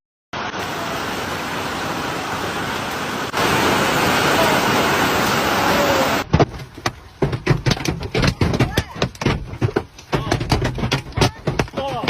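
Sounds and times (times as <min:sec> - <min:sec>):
hail and heavy rain pounding: 0:00.5 - 0:12.0.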